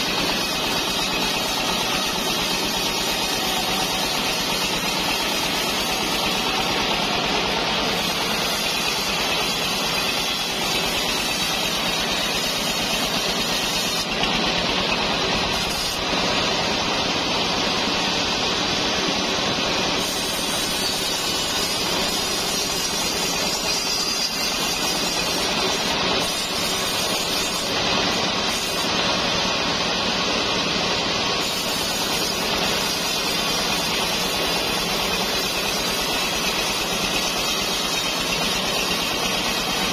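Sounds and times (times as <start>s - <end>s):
band sawmill sawing timber: 0.0s - 39.9s.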